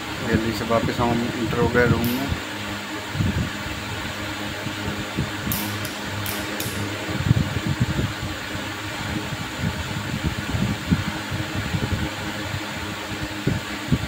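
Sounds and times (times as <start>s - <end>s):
ceiling fan humming: 0.0s - 14.0s.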